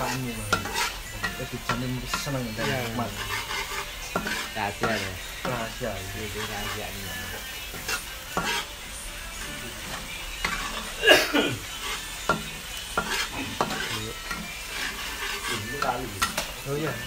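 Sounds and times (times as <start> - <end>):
metal spatula scraping wok: 0.0 - 11.0, 11.6 - 17.0
spice paste sizzling in oil: 0.0 - 17.0.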